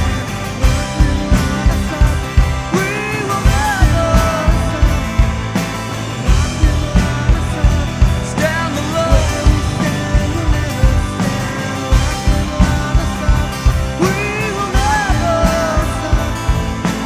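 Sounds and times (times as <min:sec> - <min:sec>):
rock band playing live: 0:00.0 - 0:17.0
steady drum beat: 0:00.0 - 0:17.0.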